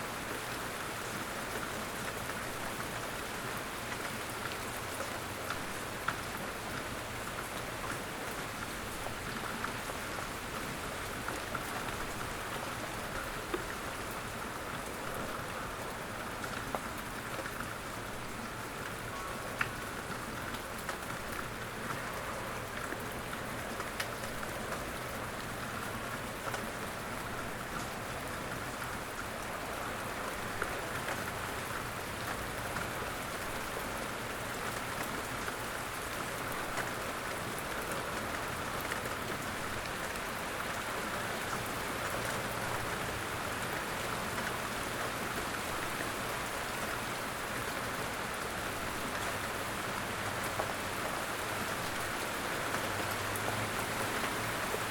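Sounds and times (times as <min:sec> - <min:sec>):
steady rain: 0:00.0 - 0:54.9
raindrops pattering: 0:00.1 - 0:54.9.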